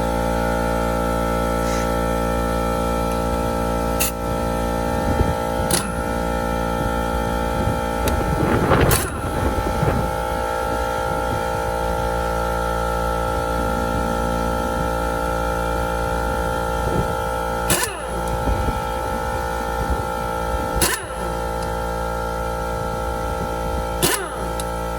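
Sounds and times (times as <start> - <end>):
mechanical hum: 0.0 - 24.9.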